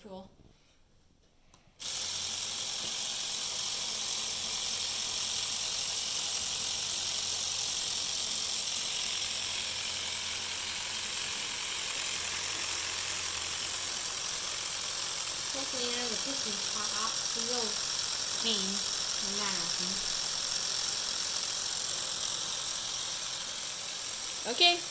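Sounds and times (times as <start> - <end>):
small electric motor whirring: 1.8 - 24.9.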